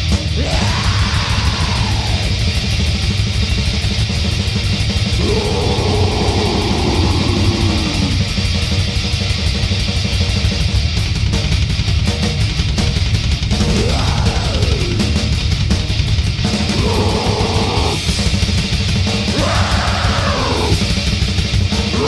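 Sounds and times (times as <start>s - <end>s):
bass guitar: 0.0s - 22.0s
distorted guitars: 0.0s - 22.0s
fast drumming: 0.0s - 22.0s.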